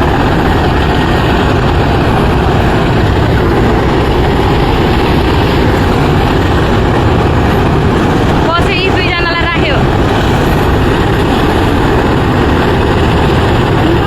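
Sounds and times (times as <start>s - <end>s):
helicopter rotor and engine: 0.0s - 14.0s.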